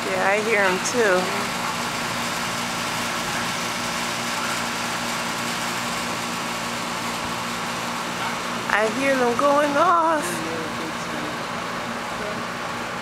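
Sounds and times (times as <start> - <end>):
distant warning sirens: 0.0 - 13.0.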